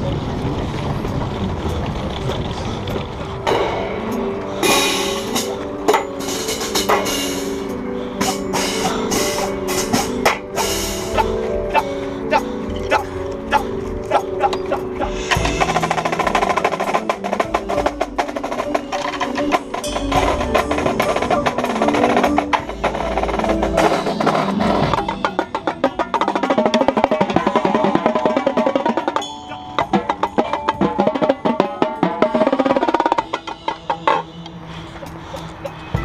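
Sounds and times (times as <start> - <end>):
tenor drums rolling: 0.0 - 36.0
percussion ensemble playing: 3.4 - 34.3.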